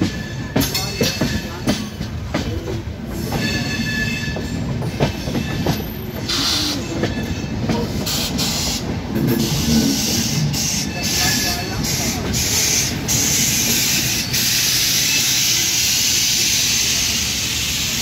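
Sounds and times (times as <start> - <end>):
passing train rush: 0.0 - 18.0
train wheels clattering over rails: 0.0 - 18.0.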